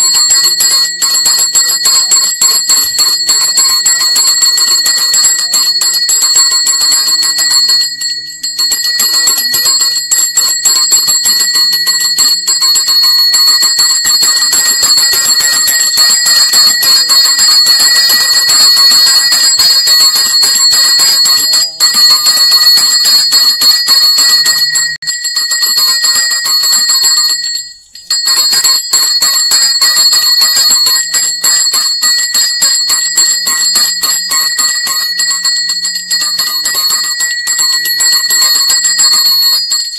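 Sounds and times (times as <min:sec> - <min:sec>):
temple bell ringing rapidly: 0:00.0 - 0:39.9.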